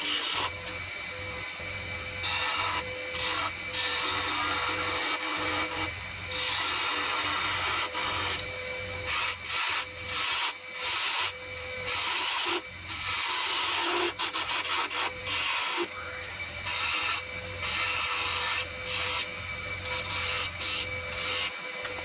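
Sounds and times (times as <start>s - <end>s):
lathe humming: 0.0s - 22.0s
tool scraping spinning wood: 2.2s - 22.0s.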